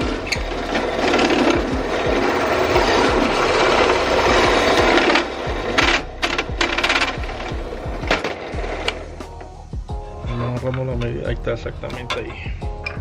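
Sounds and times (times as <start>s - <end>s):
tool grinding and scraping: 0.0s - 11.0s.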